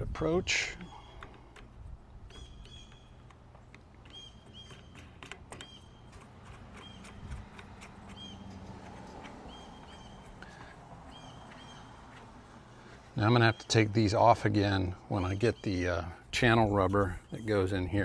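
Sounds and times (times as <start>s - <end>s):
bird chirping: 0.6s - 1.5s, 2.2s - 3.4s, 4.0s - 16.2s, 16.8s - 18.0s.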